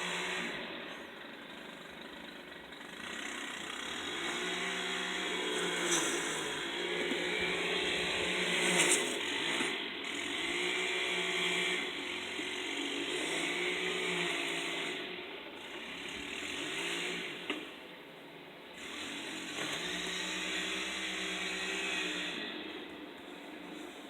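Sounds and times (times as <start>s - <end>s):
small petrol engine running: 0.0s - 24.0s.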